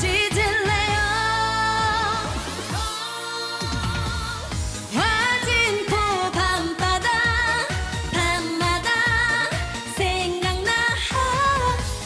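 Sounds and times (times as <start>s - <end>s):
upbeat dance-pop backing: 0.0s - 12.0s
woman singing: 0.0s - 12.0s.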